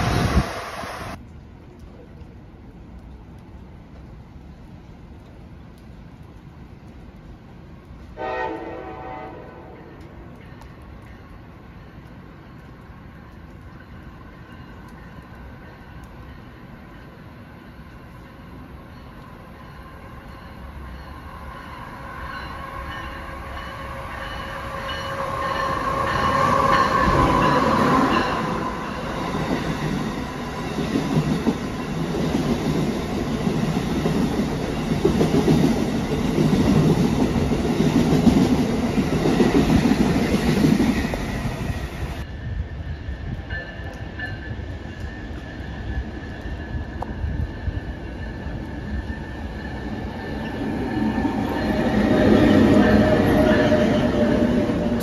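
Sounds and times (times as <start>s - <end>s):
electric train whine: 0.0s - 1.2s, 8.2s - 55.0s.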